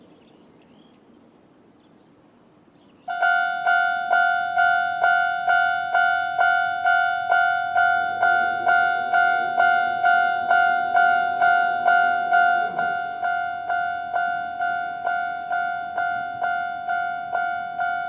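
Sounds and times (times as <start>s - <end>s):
level crossing warning bell: 3.1s - 18.0s.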